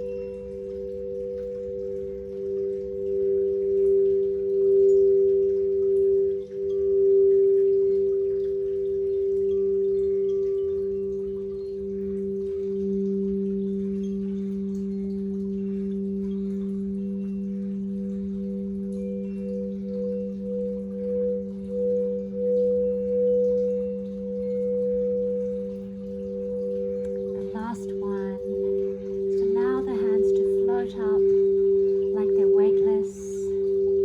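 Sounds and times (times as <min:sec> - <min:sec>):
crystal singing bowls ringing: 0:00.0 - 0:34.0.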